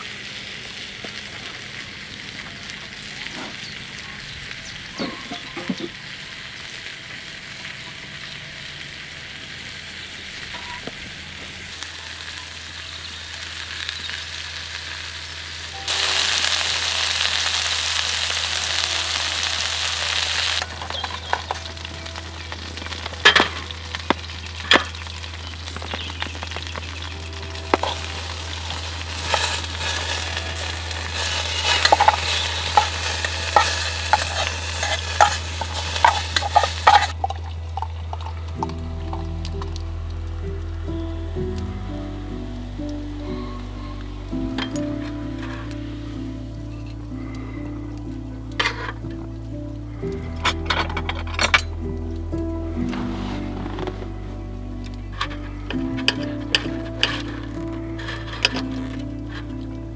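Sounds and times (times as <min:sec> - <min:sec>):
food sizzling in pans: 0:00.0 - 0:59.9.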